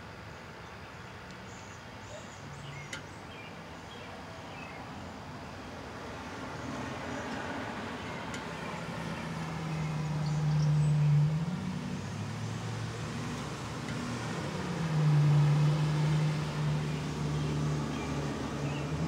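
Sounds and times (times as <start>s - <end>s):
low engine-like hum: 2.1s - 19.0s.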